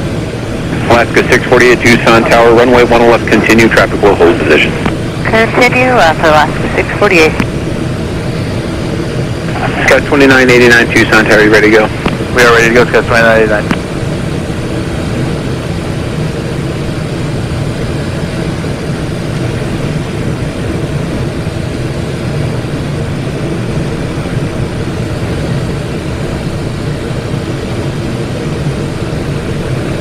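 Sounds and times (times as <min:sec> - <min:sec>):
airflow rushing over cockpit: 0:00.0 - 0:30.0
jet engines humming: 0:00.0 - 0:30.0.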